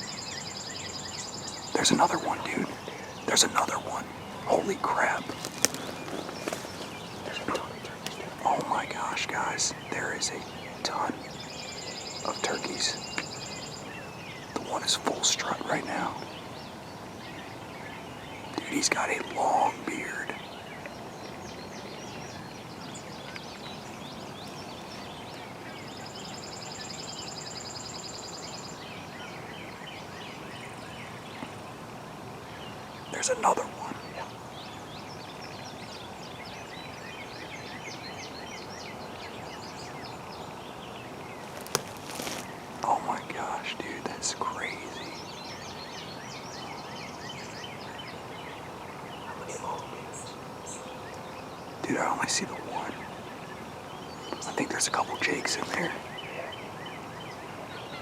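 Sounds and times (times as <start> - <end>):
songbirds chirping: 0.0 - 58.0
steady background noise: 0.0 - 58.0
steady outdoor hiss: 0.0 - 58.0.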